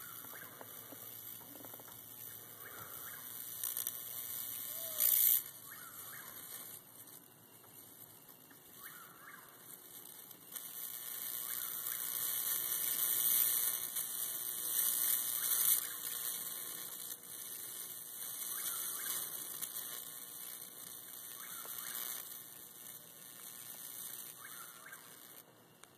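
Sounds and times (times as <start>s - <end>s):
bug zapper sizzling: 0.0s - 25.9s.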